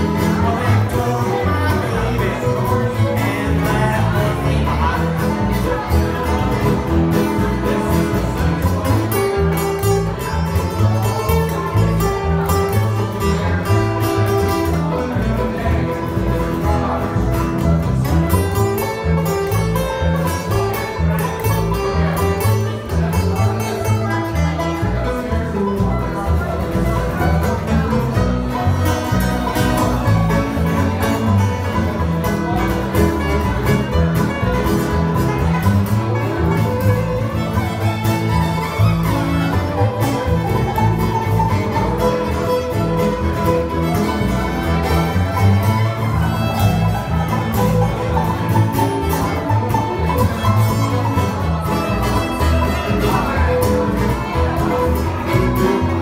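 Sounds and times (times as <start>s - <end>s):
acoustic guitar: 0.0s - 56.0s
banjo: 0.0s - 56.0s
fiddle: 0.0s - 56.0s
upright bass: 0.0s - 56.0s.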